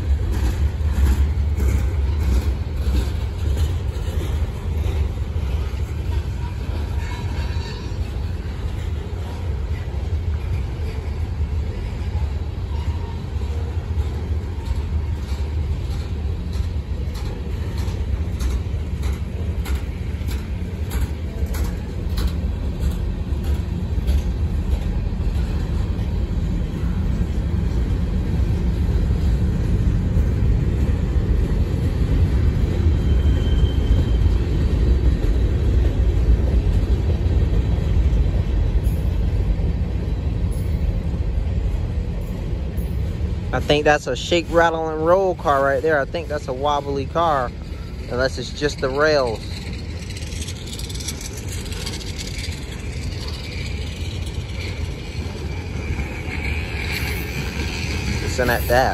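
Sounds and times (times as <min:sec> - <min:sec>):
train wheels rumbling on rail: 0:00.0 - 0:58.9
wheels clicking over rail joints: 0:00.0 - 0:58.9.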